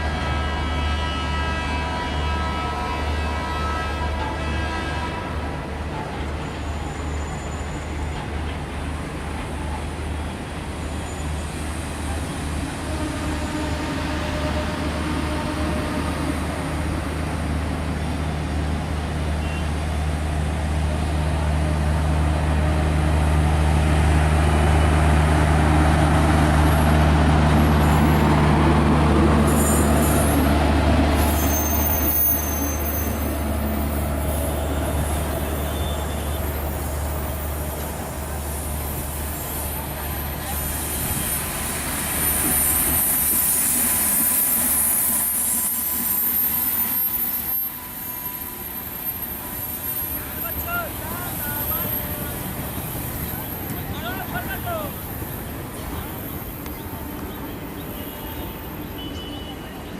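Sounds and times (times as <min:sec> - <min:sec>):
train rumbling on tracks: 0:00.0 - 0:59.9.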